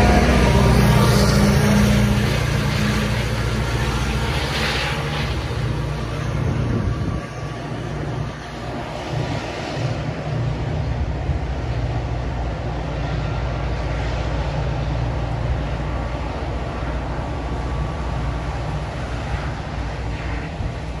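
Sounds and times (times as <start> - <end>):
diesel locomotive engine rumble: 0.0 - 21.0
moving train noise: 0.0 - 21.0.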